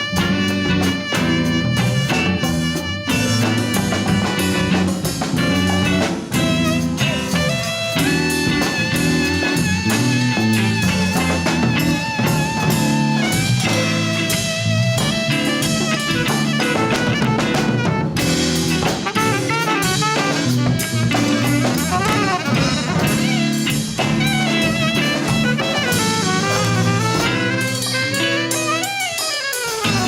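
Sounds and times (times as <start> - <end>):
bass: 0.0 - 30.0
drum kit: 0.0 - 30.0
wavering lead melody: 0.0 - 30.0.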